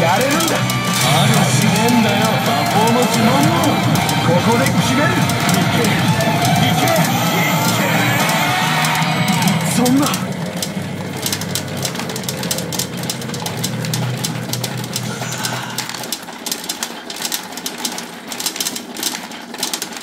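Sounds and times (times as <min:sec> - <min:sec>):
low machine hum: 0:00.0 - 0:17.6
steel balls clattering: 0:00.0 - 0:20.0.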